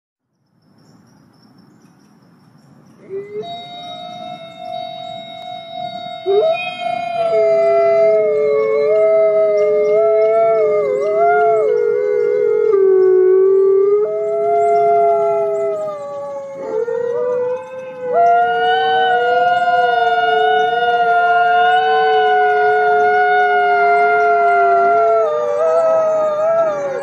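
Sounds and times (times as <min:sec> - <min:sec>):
high wavering wolf howl: 0:03.0 - 0:27.0
low steady wolf howl: 0:03.0 - 0:27.0.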